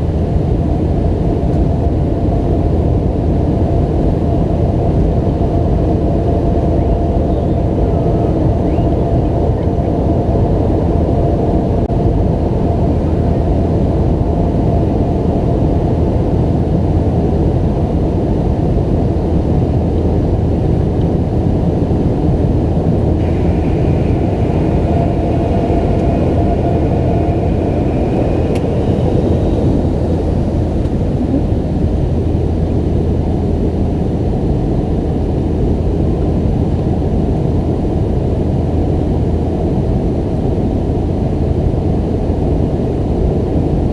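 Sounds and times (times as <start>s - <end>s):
airplane cabin engine drone: 0.0s - 43.9s.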